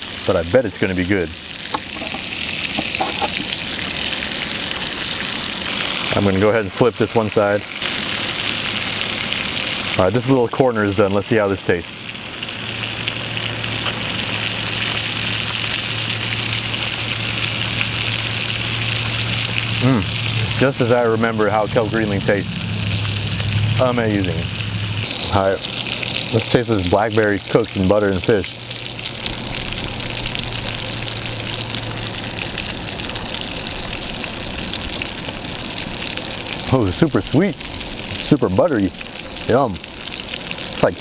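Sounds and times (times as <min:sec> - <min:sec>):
fish frying in a pan: 0:00.0 - 0:41.0.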